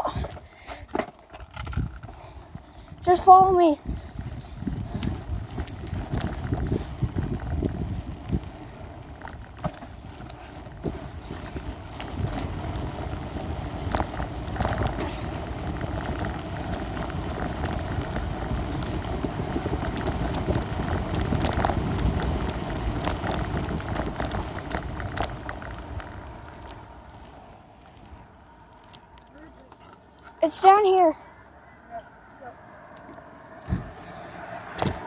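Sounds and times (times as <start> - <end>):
bicycle rattles and clicks: 0.0 - 31.8, 32.4 - 35.0
wind and tyres rumble: 0.0 - 35.0.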